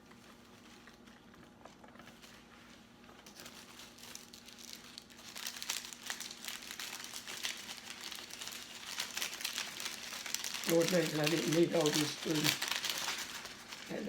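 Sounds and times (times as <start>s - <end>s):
food wrapping crinkling: 0.0s - 14.0s.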